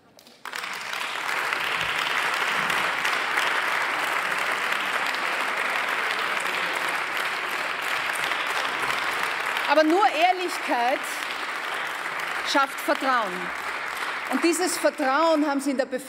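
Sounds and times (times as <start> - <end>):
applause: 0.0 - 15.8.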